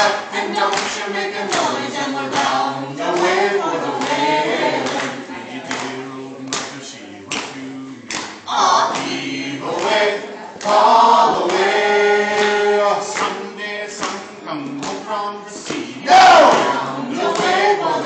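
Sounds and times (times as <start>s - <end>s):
group singing a cappella: 0.0s - 18.0s.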